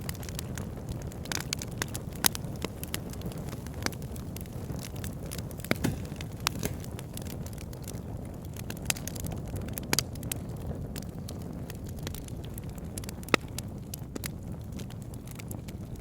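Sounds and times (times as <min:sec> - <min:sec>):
burning wood crackling and popping: 0:00.0 - 0:16.0
campfire rumbling: 0:00.0 - 0:16.0.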